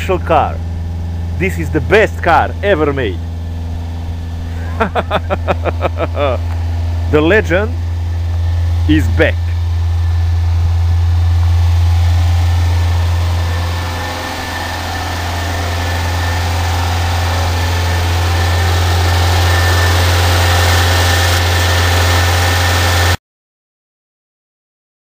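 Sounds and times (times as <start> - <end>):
car engine idling: 0.0 - 23.2.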